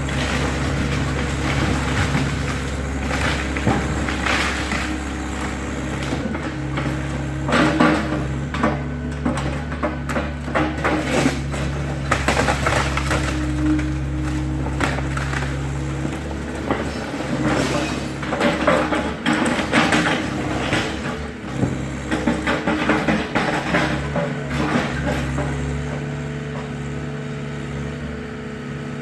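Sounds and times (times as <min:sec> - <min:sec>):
timber cracking and splintering: 0:00.0 - 0:25.7
excavator engine running: 0:00.0 - 0:29.0.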